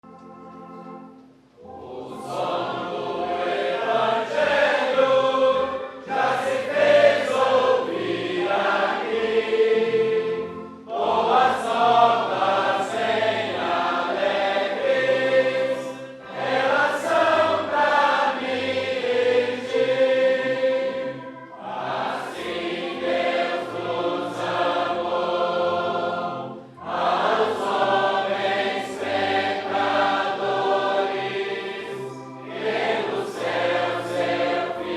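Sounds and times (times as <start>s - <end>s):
choir singing a hymn: 1.6s - 34.9s.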